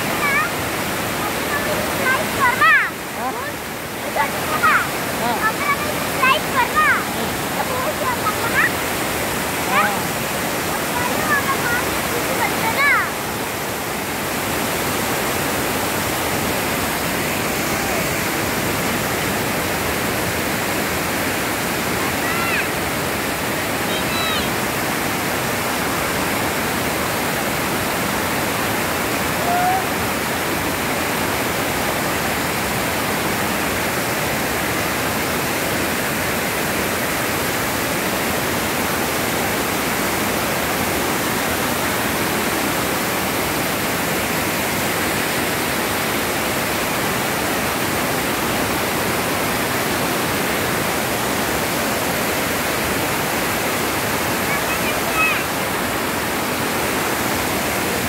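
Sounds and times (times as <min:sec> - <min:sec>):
water rushing down a spillway: 0:00.0 - 0:58.0.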